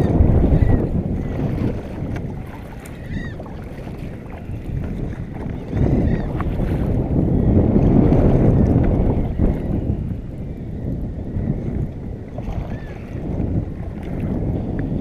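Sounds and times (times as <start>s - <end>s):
water against hull: 0.0s - 15.0s
wind buffeting microphone: 0.0s - 15.0s.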